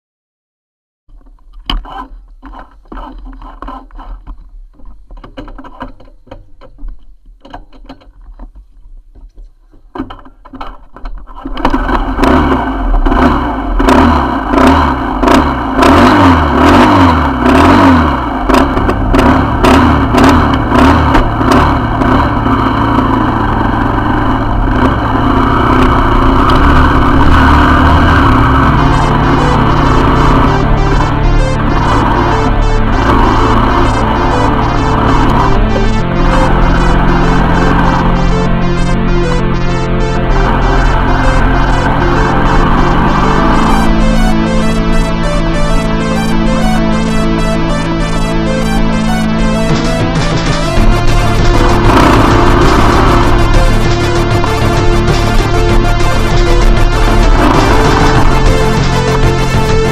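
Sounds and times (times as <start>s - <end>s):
motorcycle engine revving: 11.3s - 59.9s.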